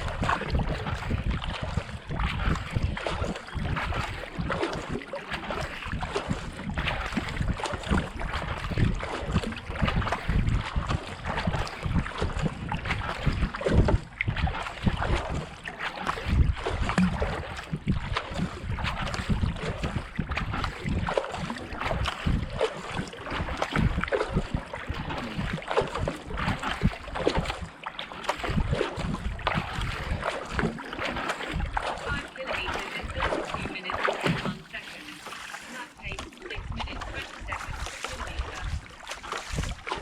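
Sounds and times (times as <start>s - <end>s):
wind buffeting microphone: 0.0s - 27.7s, 28.3s - 34.5s, 36.0s - 40.0s
kayak paddle splashing water: 0.0s - 40.0s.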